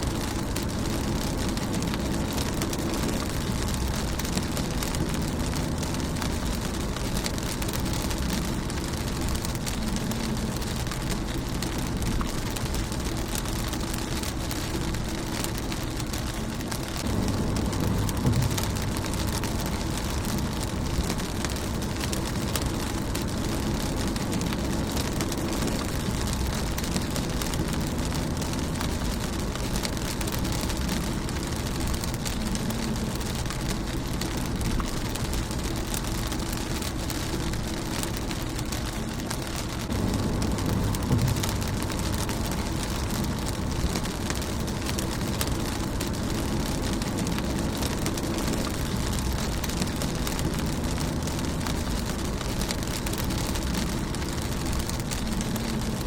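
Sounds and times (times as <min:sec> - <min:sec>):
low rumble: 0:00.0 - 0:56.0
rain pattering on a car: 0:00.0 - 0:56.0.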